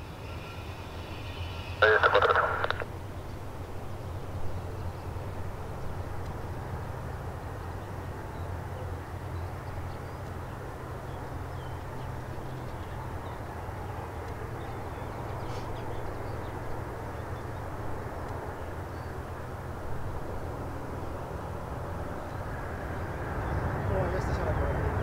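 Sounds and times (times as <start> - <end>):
distant jet airliner rumble: 0.0 - 25.0
faint birds chirping: 0.0 - 25.0.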